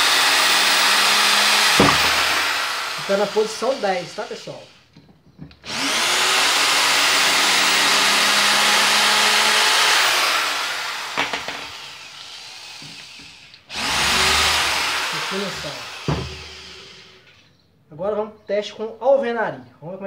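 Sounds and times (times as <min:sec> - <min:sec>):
power drill running into wood: 0:00.0 - 0:04.8, 0:05.6 - 0:17.3.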